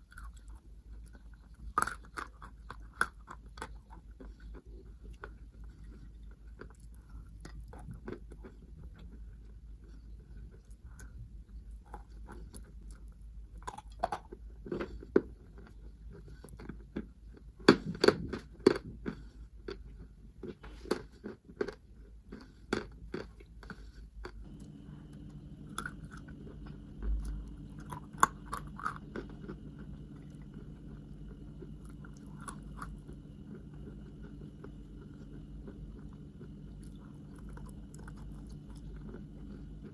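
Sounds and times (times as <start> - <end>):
crunchy chewing of chalk: 0.0 - 39.9
steady low hum: 0.0 - 39.9.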